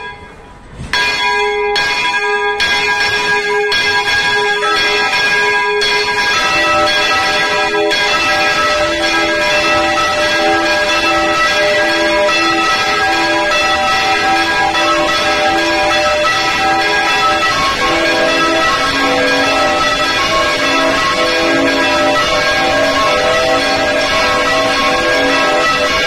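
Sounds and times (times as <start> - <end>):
swinging church bells ringing: 0.0 - 26.0.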